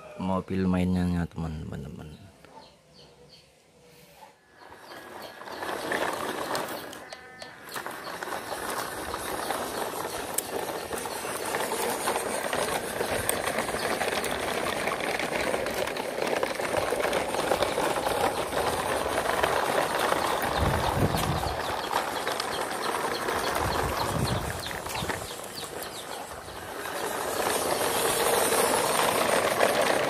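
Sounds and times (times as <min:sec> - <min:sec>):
plastic wheels rattling on concrete: 0:04.4 - 0:30.0
small electric motor whirring: 0:04.6 - 0:30.0.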